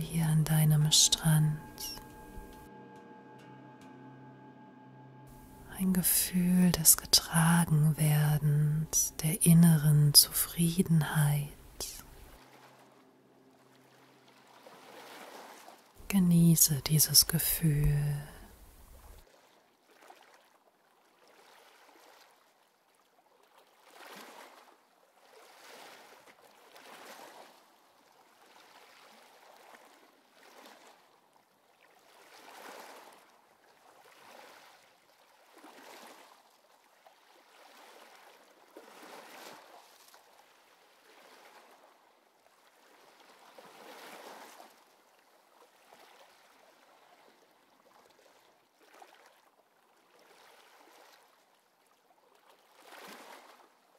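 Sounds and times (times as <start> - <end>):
faint sea waves: 0.0 - 19.2, 24.0 - 53.9.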